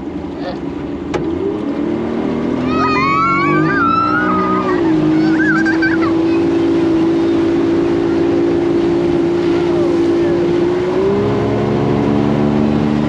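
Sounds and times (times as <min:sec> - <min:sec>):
outboard motor running hard: 0:00.0 - 0:13.0.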